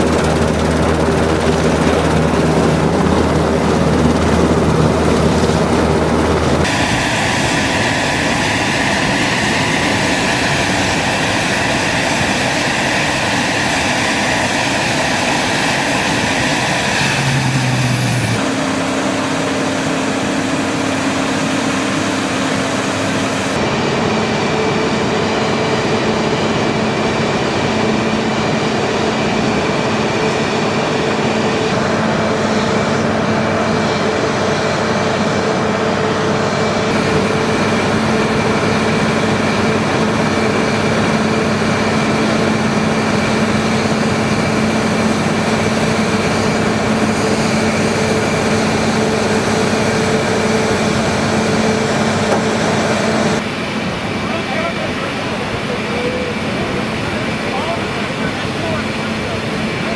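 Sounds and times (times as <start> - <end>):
aircraft ground machinery drone: 0.0 - 59.9
high-pitched machine whine: 0.0 - 59.9.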